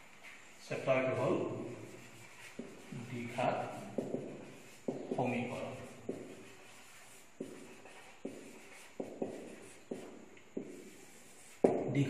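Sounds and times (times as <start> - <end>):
marker writing on whiteboard: 1.6 - 12.0.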